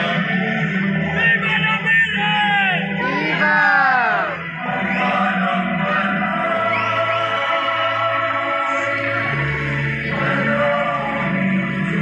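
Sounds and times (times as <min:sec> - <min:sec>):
music with sustained singing: 0:00.0 - 0:12.0.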